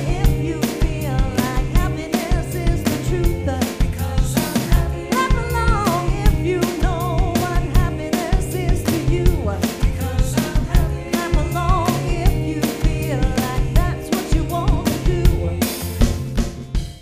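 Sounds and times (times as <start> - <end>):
band music: 0.0 - 17.0
drum kit beat: 0.0 - 17.0.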